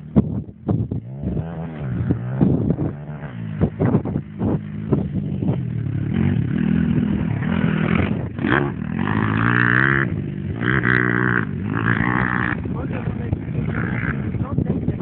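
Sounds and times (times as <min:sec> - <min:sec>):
small engine revving: 0:00.0 - 0:14.6.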